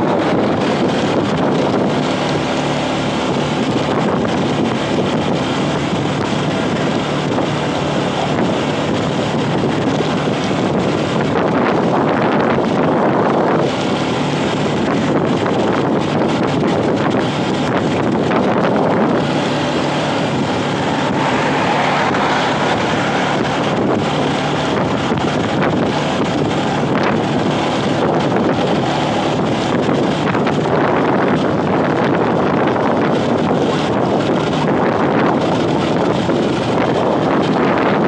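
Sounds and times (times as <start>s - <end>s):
vehicle engine running: 0.0s - 38.0s
wind buffeting microphone: 0.0s - 38.0s.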